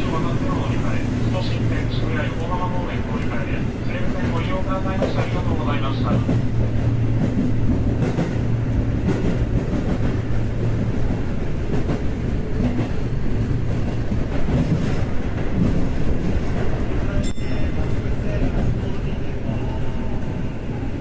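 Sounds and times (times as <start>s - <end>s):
subway train wheels rumbling on rail: 0.0s - 21.0s.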